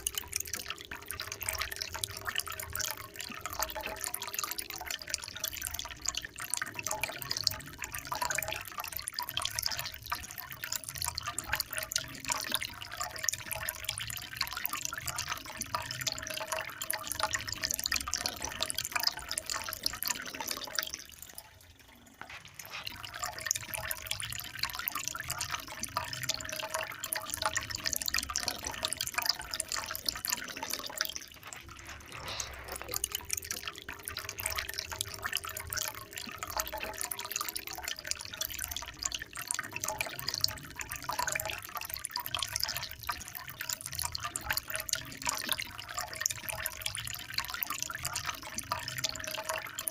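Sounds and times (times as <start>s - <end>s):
water trickling and splashing: 0.0s - 49.9s.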